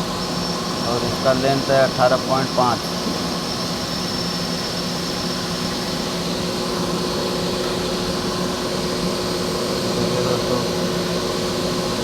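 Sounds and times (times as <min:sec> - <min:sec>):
lathe humming with high whine: 0:00.0 - 0:12.0.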